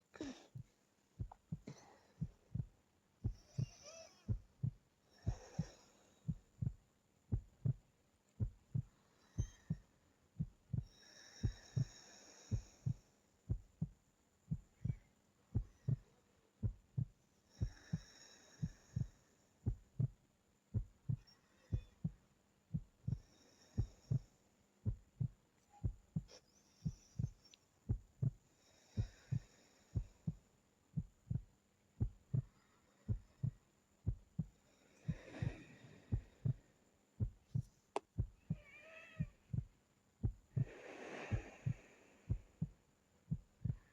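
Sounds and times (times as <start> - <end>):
slow breathing of sleeping person: 0.1 - 38.6, 39.2 - 43.9
heartbeat double thump: 0.5 - 7.8, 8.4 - 23.2, 23.8 - 24.3, 24.9 - 28.4, 29.0 - 30.4, 31.0 - 36.6, 37.2 - 38.6, 39.2 - 43.9.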